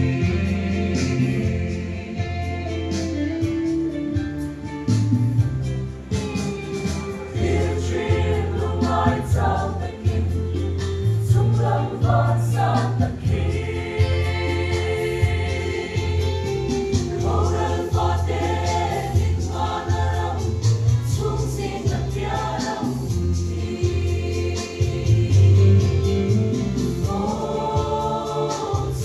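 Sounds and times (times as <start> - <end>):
mixed choir singing: 0.0 - 3.3, 6.8 - 29.0.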